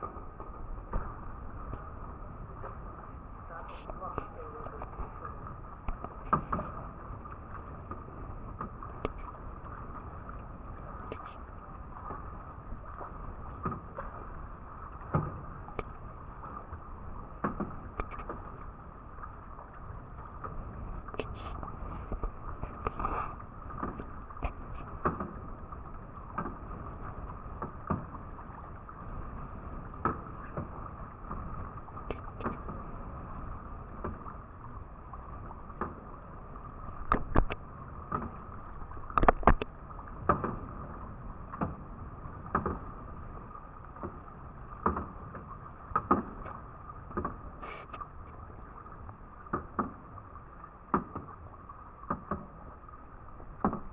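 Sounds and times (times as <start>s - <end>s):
paddle strokes splashing in water: 0.0s - 53.9s
water and wind background: 0.0s - 53.9s.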